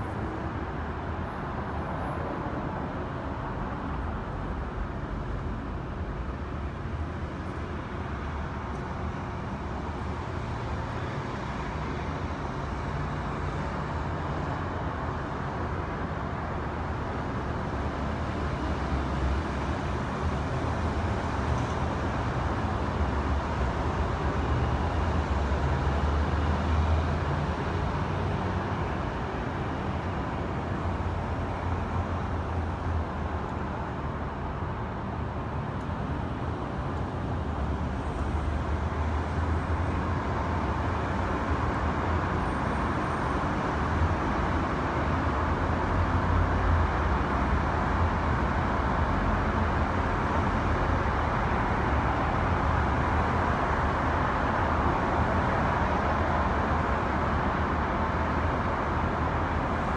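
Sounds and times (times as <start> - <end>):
city traffic rumble: 0.0 - 59.9.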